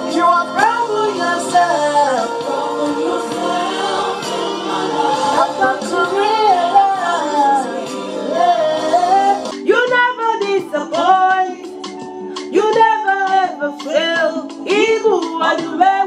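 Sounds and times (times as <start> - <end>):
gospel singing with instruments: 0.0 - 16.0.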